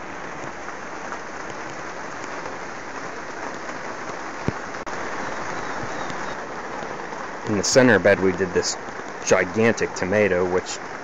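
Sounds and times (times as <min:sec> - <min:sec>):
rain on plastic sheeting: 0:00.0 - 0:11.0.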